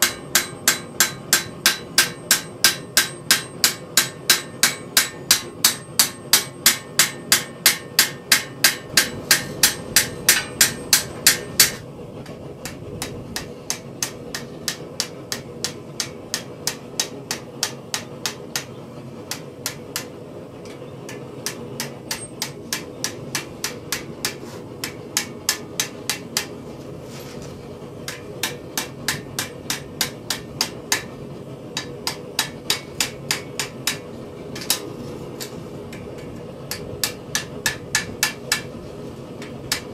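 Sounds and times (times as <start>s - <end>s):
hammer striking steel: 0.0s - 26.6s, 28.1s - 31.2s, 31.8s - 38.8s, 39.4s - 39.9s.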